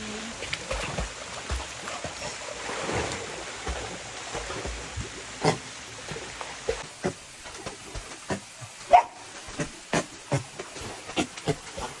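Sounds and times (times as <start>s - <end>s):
dog swimming and splashing water: 0.0s - 12.0s.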